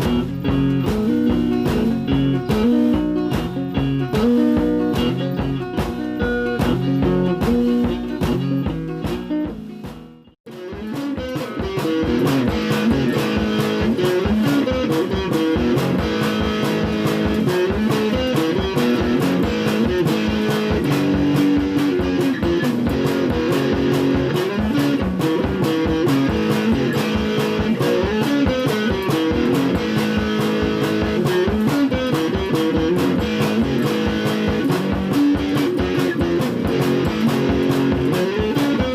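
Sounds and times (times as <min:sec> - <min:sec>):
guitar over a steady beat: 0:00.0 - 0:38.9.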